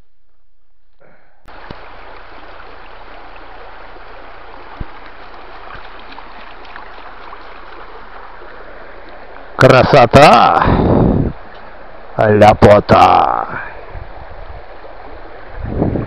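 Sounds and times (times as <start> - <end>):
stream running over stones: 1.5 - 16.0.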